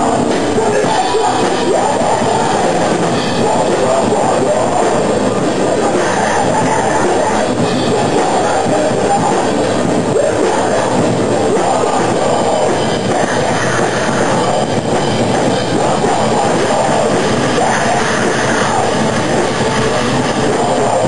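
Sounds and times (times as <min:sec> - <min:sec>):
heavy rock band playing: 0:00.0 - 0:21.0.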